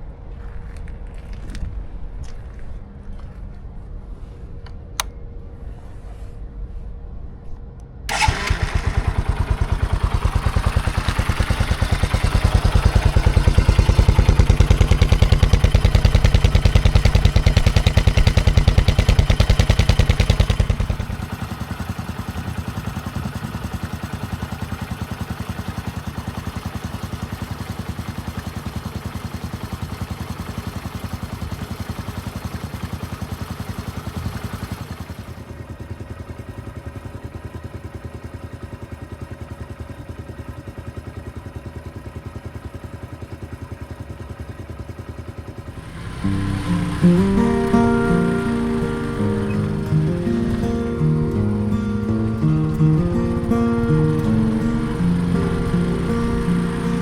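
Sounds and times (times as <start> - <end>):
motorcycle engine starting and idling: 8.1 - 57.0.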